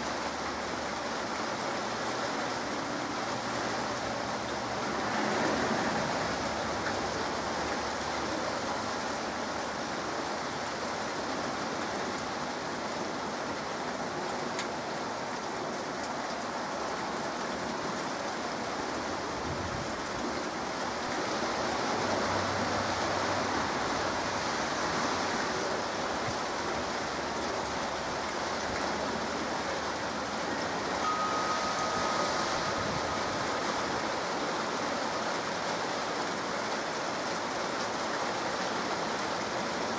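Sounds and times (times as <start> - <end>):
heavy rain on trees and rooftops: 0.0 - 39.9.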